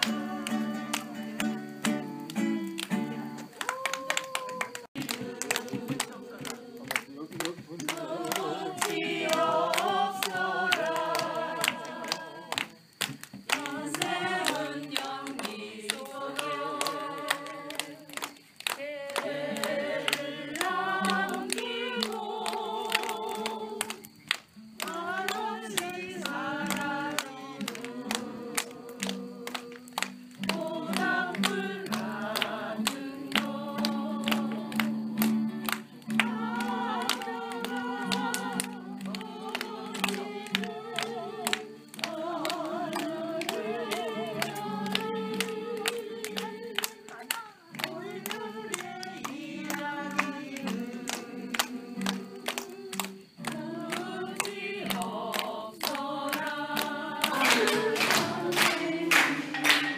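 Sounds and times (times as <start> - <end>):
group singing in unison: 0.0 - 59.9
hand claps: 0.0 - 59.9.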